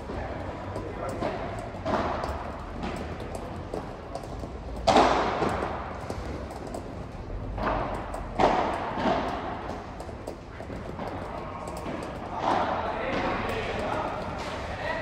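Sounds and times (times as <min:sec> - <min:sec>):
ball rebounding off walls: 0:00.0 - 0:15.0
ball struck by rackets: 0:00.1 - 0:15.0.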